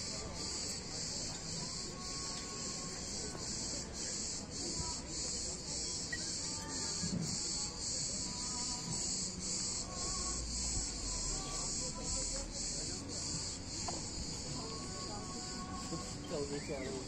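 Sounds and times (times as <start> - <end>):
cicadas buzzing in chorus: 0.0 - 17.0.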